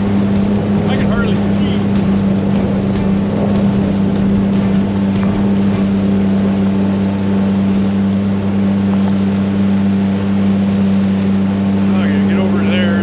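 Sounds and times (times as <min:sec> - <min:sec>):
outboard motor droning: 0:00.0 - 0:13.0
wind and water noise: 0:00.0 - 0:13.0.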